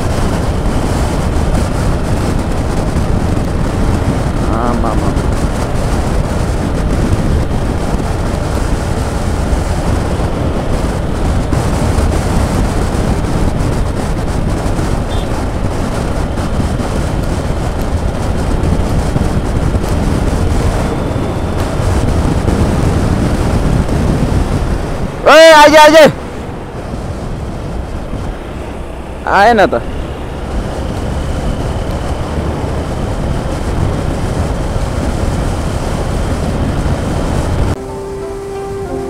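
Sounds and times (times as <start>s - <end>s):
wind roaring over microphone: 0.0s - 39.0s.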